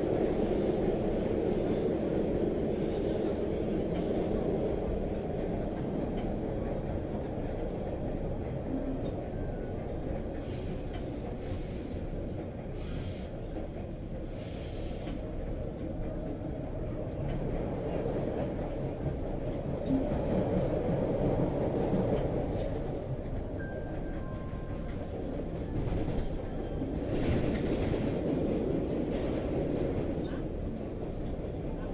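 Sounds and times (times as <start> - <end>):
subway train rumbling: 0.0 - 31.9.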